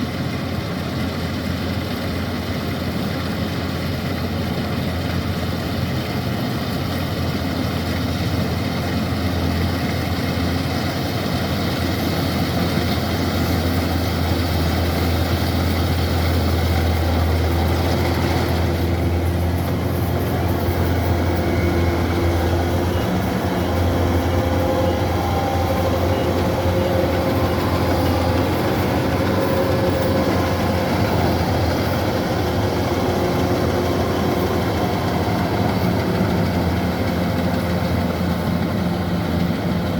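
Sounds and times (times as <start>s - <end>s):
cutting and threshing machinery: 0.0s - 39.9s
diesel engine running: 0.0s - 39.9s.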